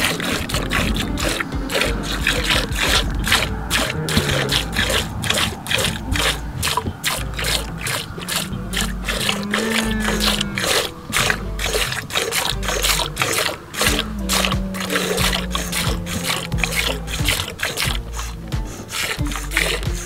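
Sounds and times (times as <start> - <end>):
squirts of milk into a pot: 0.0 - 20.0.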